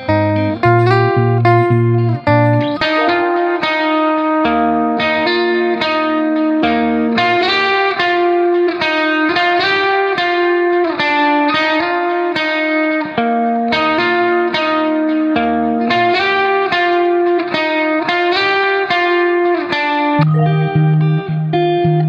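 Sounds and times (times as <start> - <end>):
guitar playing sustained notes: 0.0 - 22.0.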